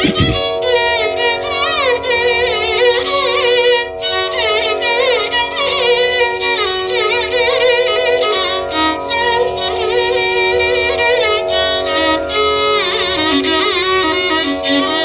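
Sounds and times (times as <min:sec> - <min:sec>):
steady drone: 0:00.0 - 0:15.0
violin playing gliding phrases: 0:00.0 - 0:15.0.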